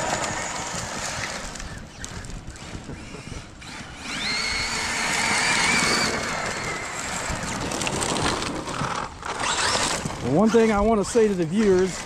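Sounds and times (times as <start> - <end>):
rc truck motor whine: 0.0 - 10.9, 11.5 - 12.0.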